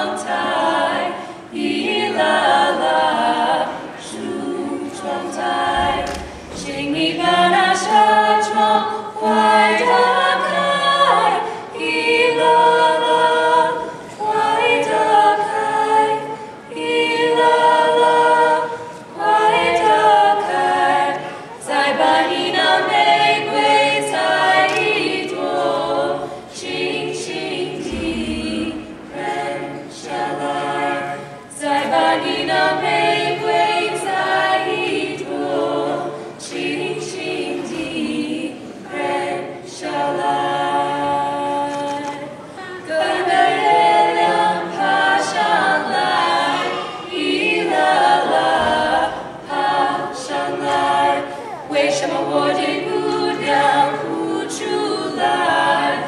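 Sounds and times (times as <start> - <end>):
group of voices singing a folk song: 0.0 - 56.0.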